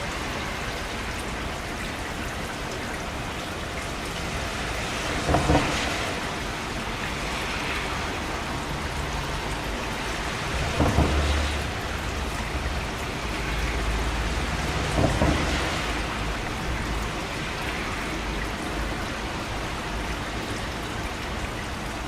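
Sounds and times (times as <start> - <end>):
heavy rainfall: 0.0 - 22.0.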